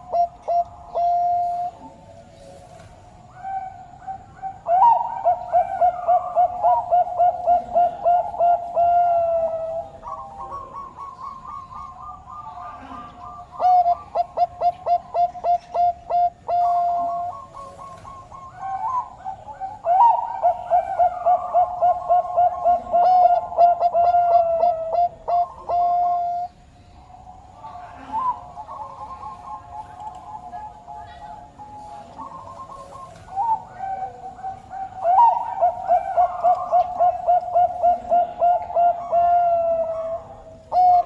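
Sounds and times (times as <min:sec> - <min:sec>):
dove cooing: 0:00.0 - 0:41.0
higher dove coo: 0:00.0 - 0:41.0.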